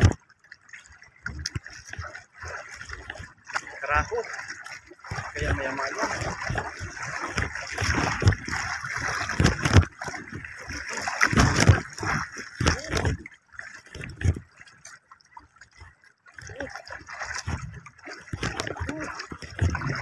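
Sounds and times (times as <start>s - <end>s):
water sloshing: 0.0s - 20.0s
fish splashing at surface: 1.2s - 14.4s, 16.4s - 20.0s.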